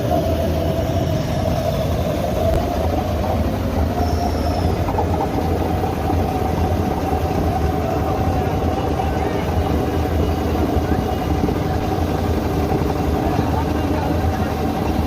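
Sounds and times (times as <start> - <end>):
heavy engine droning and whining: 0.0 - 15.0.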